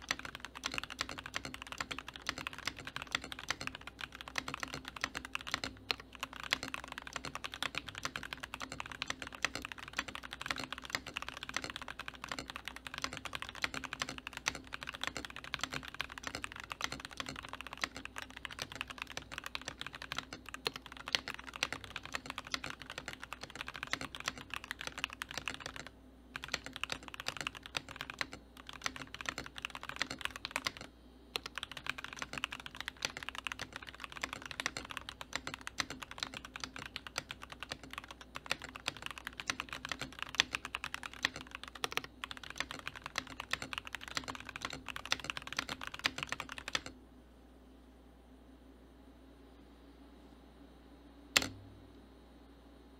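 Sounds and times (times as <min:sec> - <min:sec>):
fast typing on mechanical keyboard: 0:00.0 - 0:46.9.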